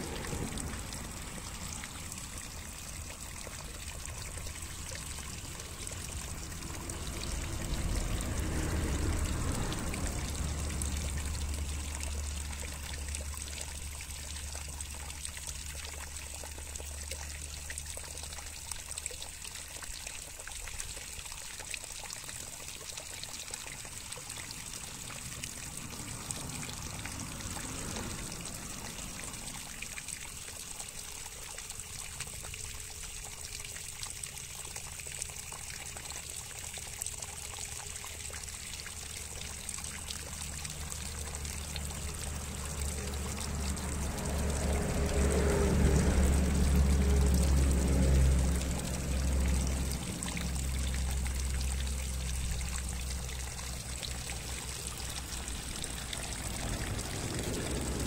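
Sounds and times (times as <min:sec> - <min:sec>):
water pouring and trickling: 0:00.0 - 0:58.0.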